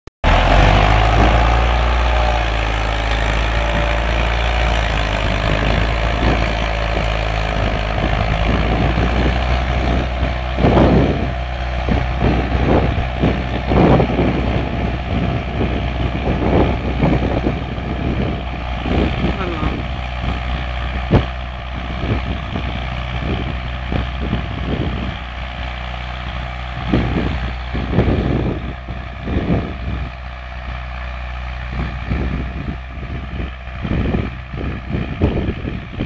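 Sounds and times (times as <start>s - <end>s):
tractor diesel engine running: 0.2s - 36.0s.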